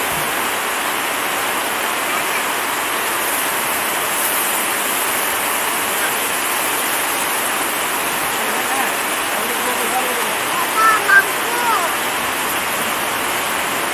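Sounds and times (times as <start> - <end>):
steady rushing hiss: 0.0 - 13.9.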